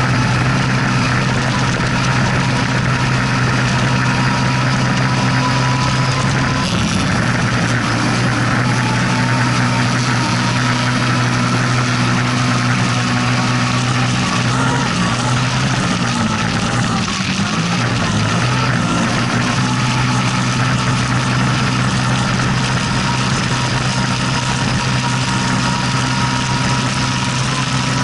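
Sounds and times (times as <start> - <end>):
engine running under load: 0.0 - 28.0.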